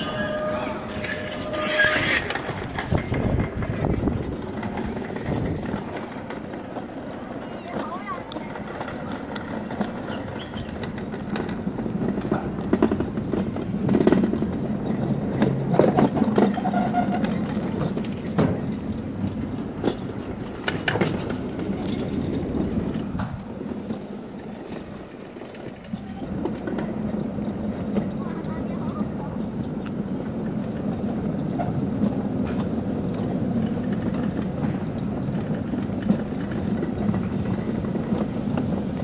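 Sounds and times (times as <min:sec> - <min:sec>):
sled rattling in metal chute: 0:00.0 - 0:39.0.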